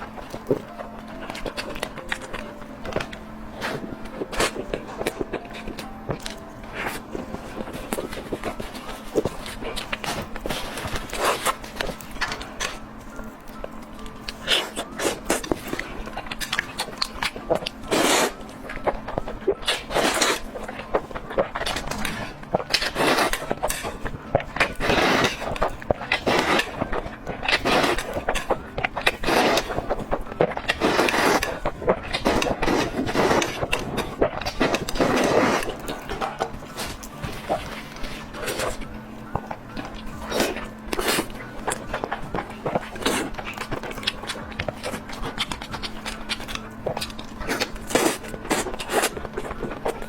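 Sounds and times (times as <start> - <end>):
crunchy chewing: 0.0 - 50.0
steady low hum: 0.0 - 50.0.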